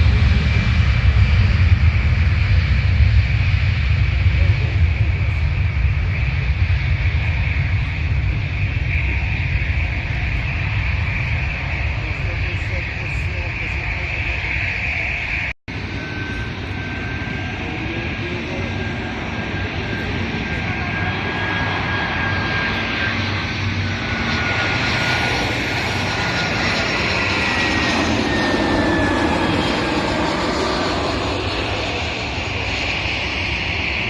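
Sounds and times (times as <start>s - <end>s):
airliner engines whining: 0.0s - 34.0s.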